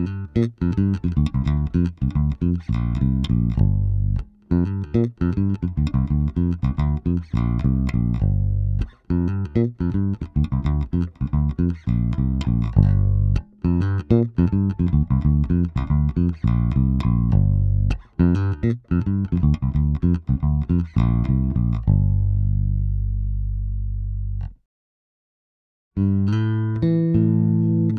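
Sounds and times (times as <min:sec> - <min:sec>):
bass guitar plucked notes: 0:00.0 - 0:24.6, 0:26.0 - 0:27.9.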